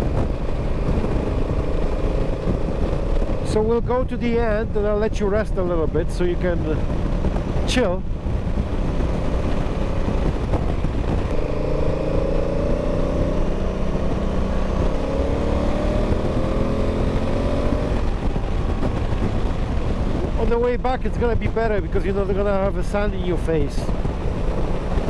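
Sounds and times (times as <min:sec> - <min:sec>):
motorcycle engine running: 0:00.0 - 0:25.0
wind noise: 0:00.0 - 0:25.0.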